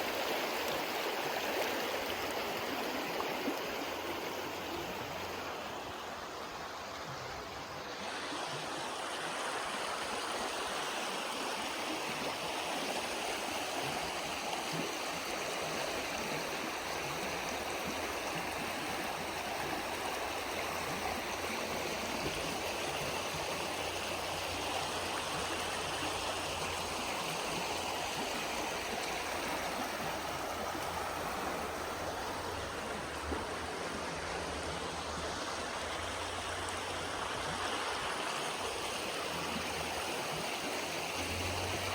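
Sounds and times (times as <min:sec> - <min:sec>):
mountain stream rushing: 0:00.0 - 0:41.9.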